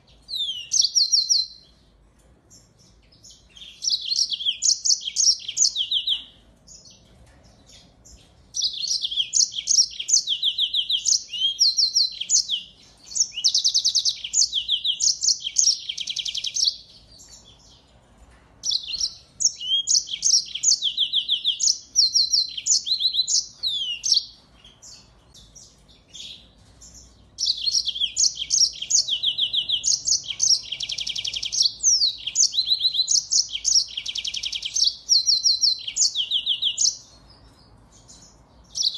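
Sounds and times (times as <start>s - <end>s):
finch singing trills: 0.0s - 1.8s, 2.5s - 17.9s, 18.6s - 38.9s.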